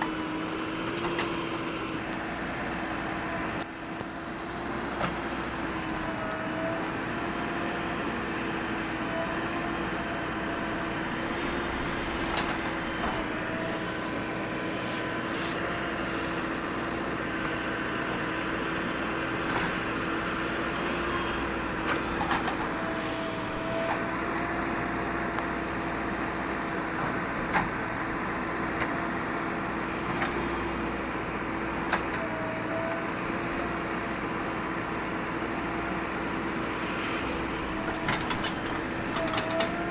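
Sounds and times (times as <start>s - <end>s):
backhoe loader engine running: 0.0s - 39.9s.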